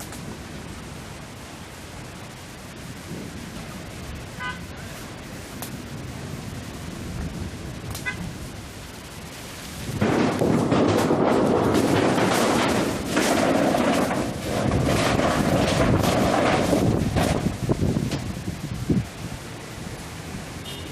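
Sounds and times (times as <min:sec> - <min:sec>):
wind buffeting microphone: 0:02.2 - 0:20.0.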